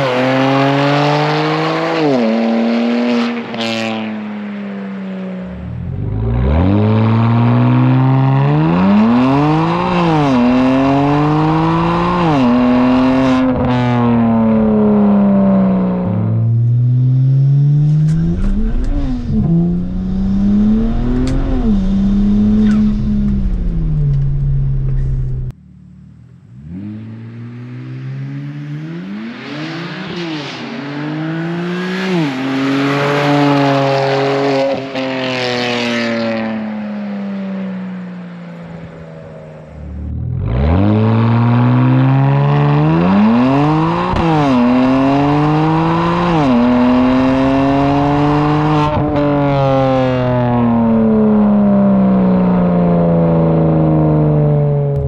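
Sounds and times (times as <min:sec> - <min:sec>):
car engine accelerating hard: 0:00.0 - 0:04.4, 0:05.4 - 0:55.0.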